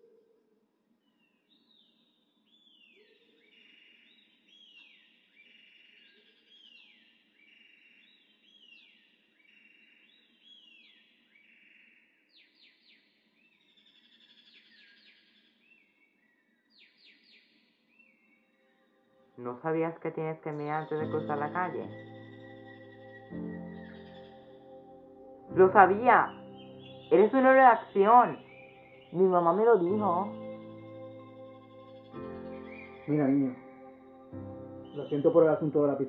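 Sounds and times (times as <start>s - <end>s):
faint birds chirping: 0.0s - 36.0s.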